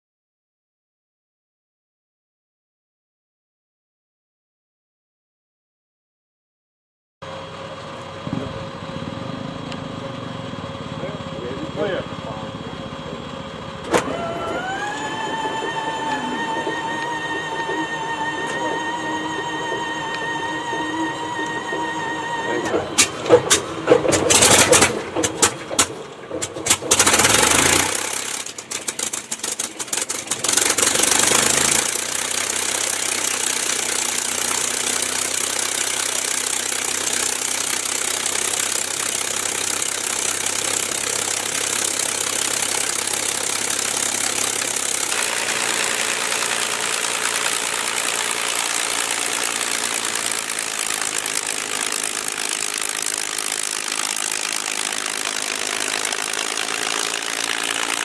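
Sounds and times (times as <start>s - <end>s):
aircraft engine starting and idling: 7.2s - 58.0s.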